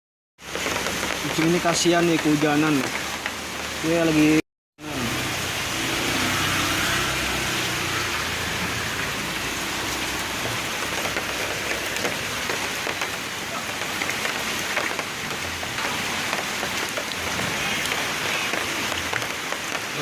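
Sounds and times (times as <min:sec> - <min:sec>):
heavy rain: 0:00.4 - 0:20.0.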